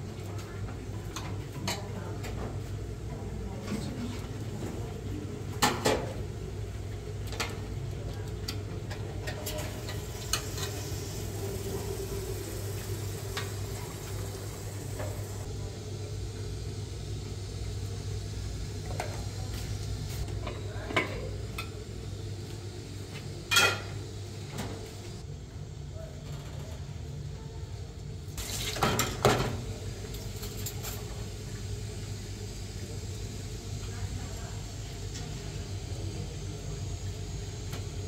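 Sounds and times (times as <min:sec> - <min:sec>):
gas burners hissing: 0:03.4 - 0:25.4, 0:28.3 - 0:38.0.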